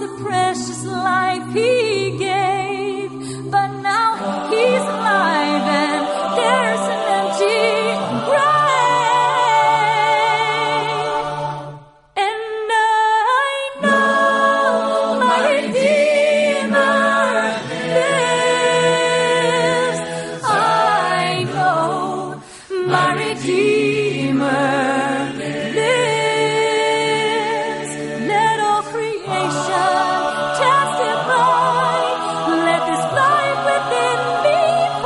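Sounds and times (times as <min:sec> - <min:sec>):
voices singing with vibrato: 0:00.0 - 0:35.0.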